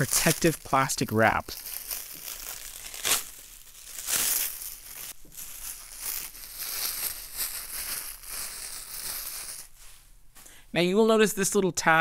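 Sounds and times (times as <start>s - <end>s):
plastic wrap crinkling: 0.0s - 9.9s.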